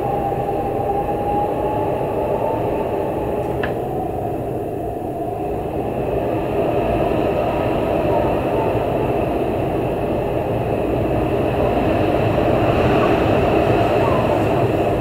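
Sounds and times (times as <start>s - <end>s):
strong wind gusts: 0.0s - 15.0s.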